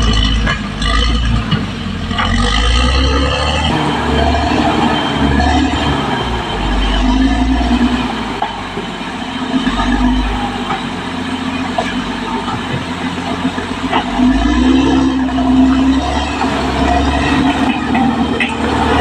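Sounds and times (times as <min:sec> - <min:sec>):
bulldozer diesel engine running: 0:00.0 - 0:19.0
steel tracks rolling: 0:00.0 - 0:19.0.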